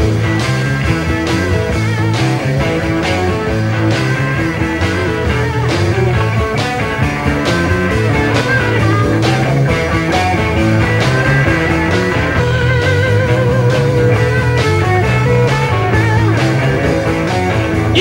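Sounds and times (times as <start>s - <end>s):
electric guitar chords: 0.0s - 18.0s
rock music: 0.0s - 18.0s.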